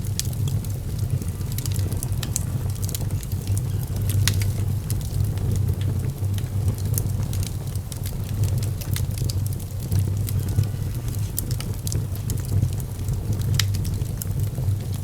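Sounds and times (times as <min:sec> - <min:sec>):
fire low rumble: 0:00.0 - 0:15.0
wood fire crackling and popping: 0:00.0 - 0:15.0.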